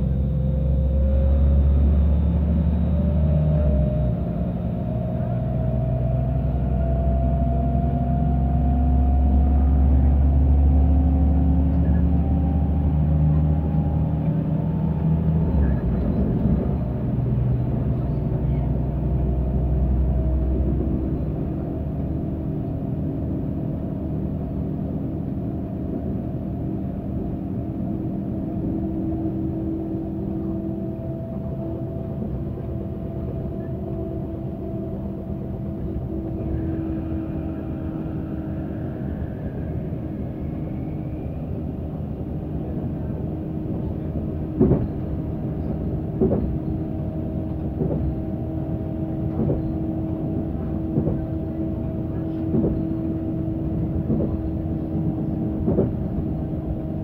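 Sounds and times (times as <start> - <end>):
low train engine rumble: 0.0 - 57.0.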